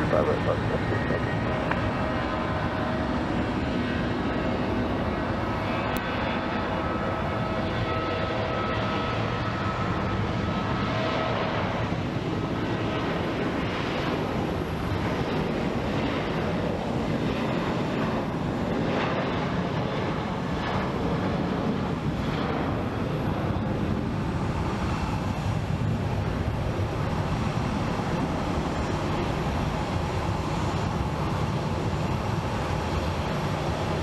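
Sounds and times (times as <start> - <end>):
airliner engines running: 0.0 - 34.0.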